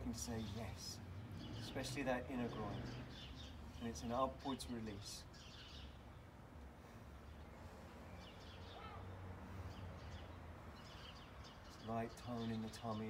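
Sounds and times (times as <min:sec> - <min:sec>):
bird chirps: 0:00.2 - 0:06.2, 0:07.2 - 0:13.0.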